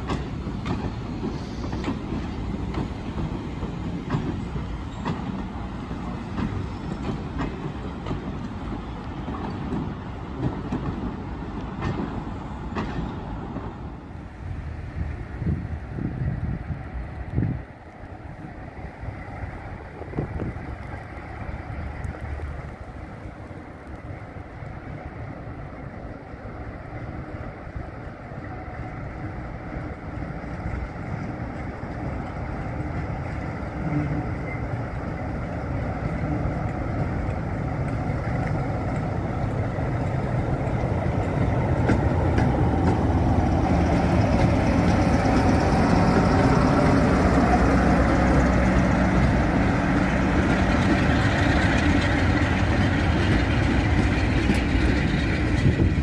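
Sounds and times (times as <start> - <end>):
diesel locomotive engine: 0.0 - 56.0
train coaches rolling past: 0.0 - 56.0.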